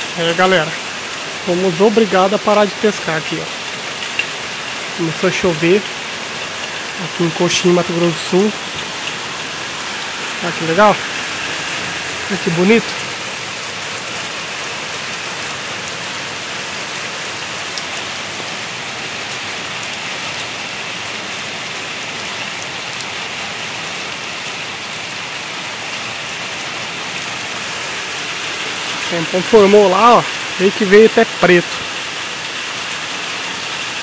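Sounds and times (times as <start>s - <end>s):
heavy rain on river: 0.0s - 34.0s
rain on metal roof: 0.0s - 34.0s.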